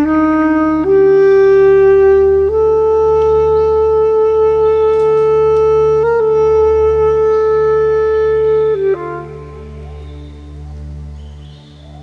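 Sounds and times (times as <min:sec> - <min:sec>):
bass clarinet long notes: 0:00.0 - 0:12.0.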